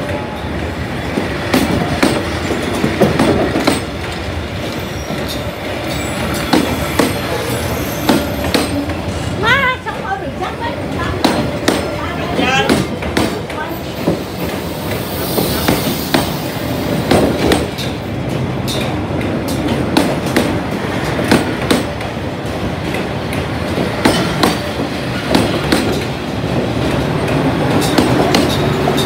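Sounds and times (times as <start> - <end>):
train coaches rolling past: 0.0 - 29.0.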